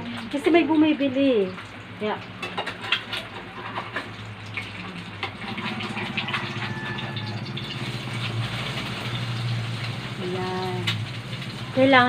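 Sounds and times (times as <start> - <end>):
engine hum with rattling: 1.4 - 12.0.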